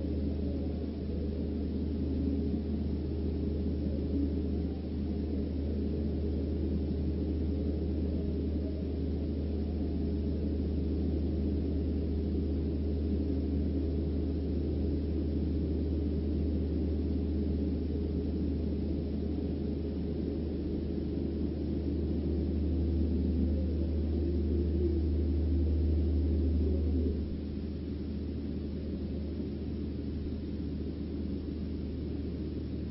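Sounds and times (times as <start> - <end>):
muffled rumble: 0.0 - 32.9
steady low hum: 0.0 - 32.9.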